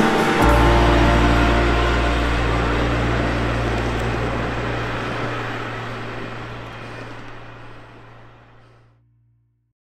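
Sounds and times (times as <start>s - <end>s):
passenger train rumbling: 0.0s - 9.0s.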